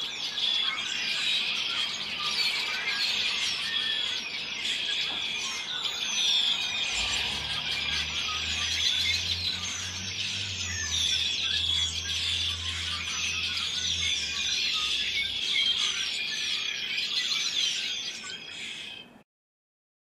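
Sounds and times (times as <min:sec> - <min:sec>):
songbird flock chirping: 0:00.0 - 0:19.2.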